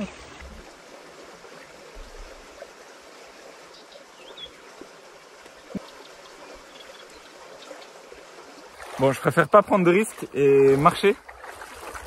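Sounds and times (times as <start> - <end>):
floodwater flowing: 0.0 - 12.0.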